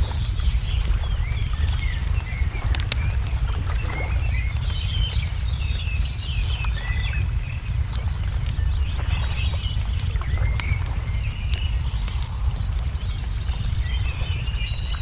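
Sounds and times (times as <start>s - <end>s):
small birds chirping and warbling: 0.0s - 15.0s
steady low rumble: 0.0s - 15.0s
wood fire popping and crackling: 0.0s - 15.0s.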